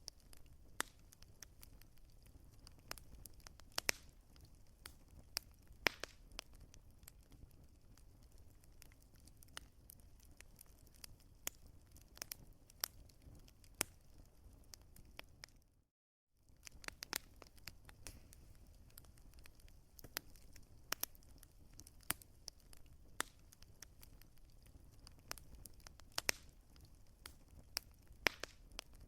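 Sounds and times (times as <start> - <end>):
wood fire crackling and popping: 0.0 - 15.7, 16.4 - 29.0.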